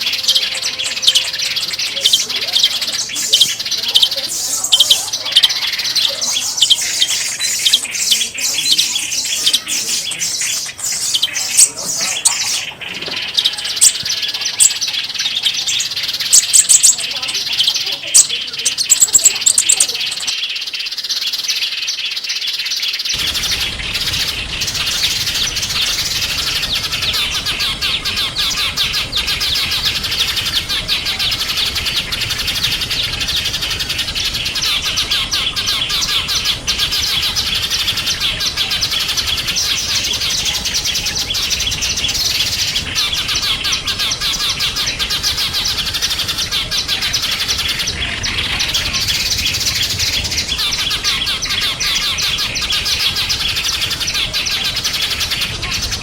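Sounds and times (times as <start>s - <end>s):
low background noise: 0.0s - 56.0s
songbirds chirping: 0.0s - 56.0s.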